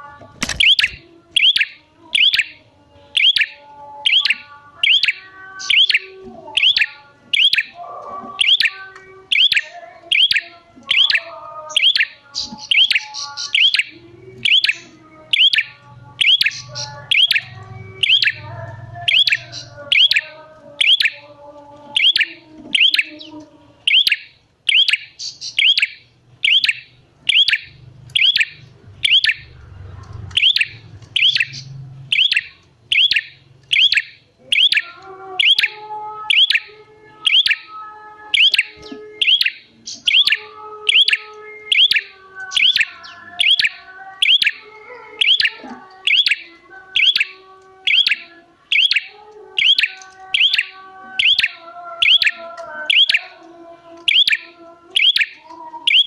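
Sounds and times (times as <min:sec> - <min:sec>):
bird sharp high chirps: 0:00.4 - 0:02.6, 0:03.2 - 0:07.8, 0:08.4 - 0:21.2, 0:22.0 - 0:23.2, 0:23.9 - 0:29.6, 0:30.3 - 0:36.7, 0:37.3 - 0:37.7, 0:38.4 - 0:53.4, 0:54.0 - 0:56.0.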